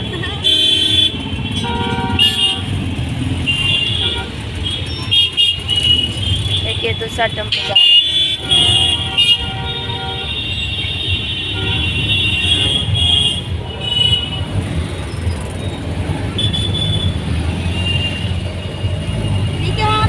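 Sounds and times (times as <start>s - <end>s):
vehicle horns beeping: 0.0s - 14.8s, 16.3s - 20.0s
auto-rickshaw engine rumble: 0.0s - 20.0s.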